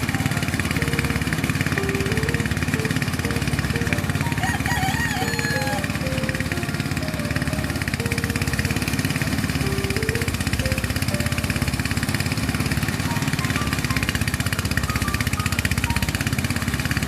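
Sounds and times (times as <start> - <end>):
machinery engine running: 0.0 - 17.0.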